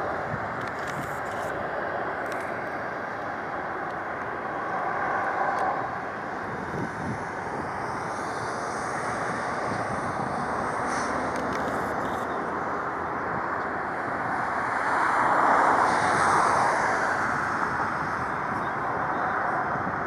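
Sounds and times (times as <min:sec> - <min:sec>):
distant jet engine roar: 0:00.0 - 0:20.0.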